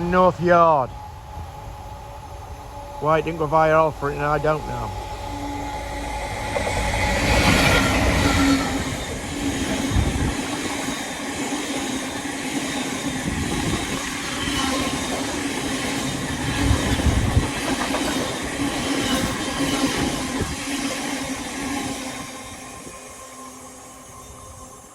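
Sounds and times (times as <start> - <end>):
freight train wheels on rails: 0.0 - 24.9.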